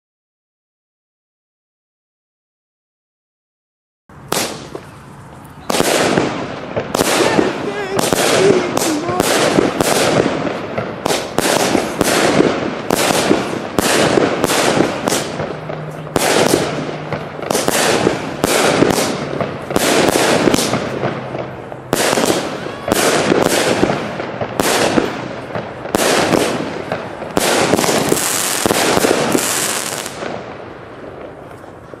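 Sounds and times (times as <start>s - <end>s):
firework bangs: 4.1s - 32.0s
firework crackling: 4.1s - 32.0s.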